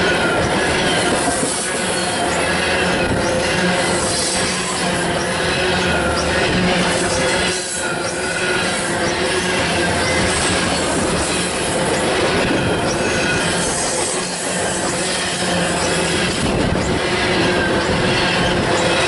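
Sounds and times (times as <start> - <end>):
train wheels rumbling and clacking: 0.0 - 19.0.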